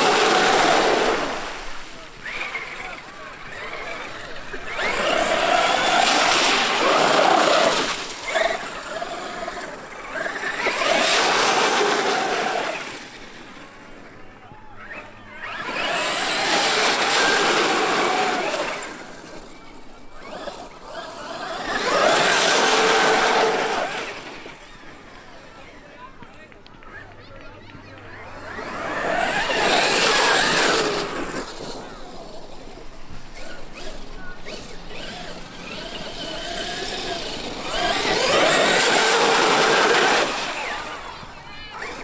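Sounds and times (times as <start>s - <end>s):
tyres churning wet dirt: 0.0s - 13.6s, 14.9s - 24.9s, 27.9s - 42.0s
electric motor whine: 0.0s - 25.1s, 32.9s - 42.0s.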